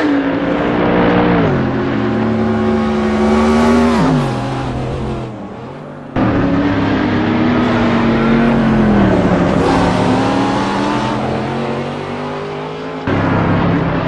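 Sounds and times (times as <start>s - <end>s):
high-performance car engines: 0.0s - 14.0s
car passing: 1.4s - 14.0s.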